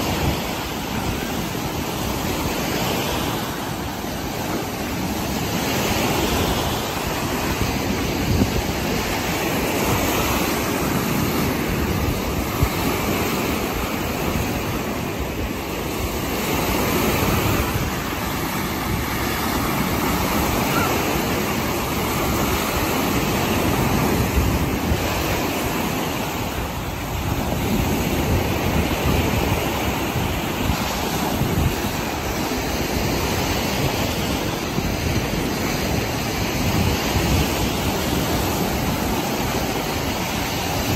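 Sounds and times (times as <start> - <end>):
waves washing on pebble beach: 0.0 - 40.9
wind buffeting microphone: 0.0 - 40.9.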